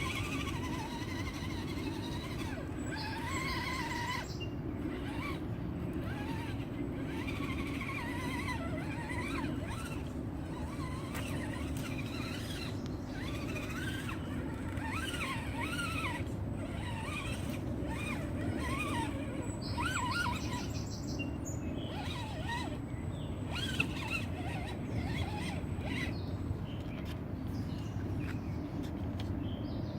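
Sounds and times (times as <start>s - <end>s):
electric motor and gears whining: 0.0s - 29.3s.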